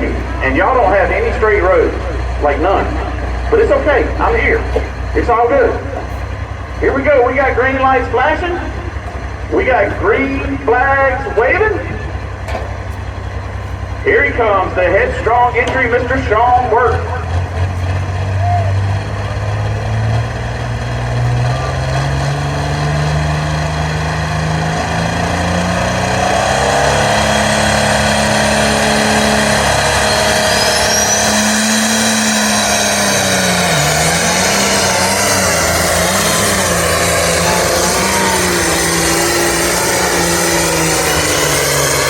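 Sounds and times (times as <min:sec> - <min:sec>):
tractor engine at full throttle: 0:00.0 - 0:42.0.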